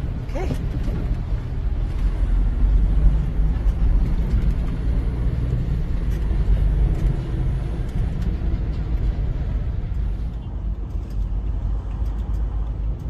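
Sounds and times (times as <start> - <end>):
truck diesel engine rumble: 0.0 - 13.0.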